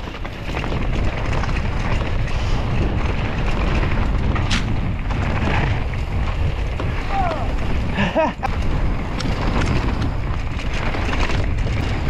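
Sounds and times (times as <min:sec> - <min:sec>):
tyres rattling on gravel: 0:00.0 - 0:12.0
wind rumble on microphone: 0:00.0 - 0:12.0.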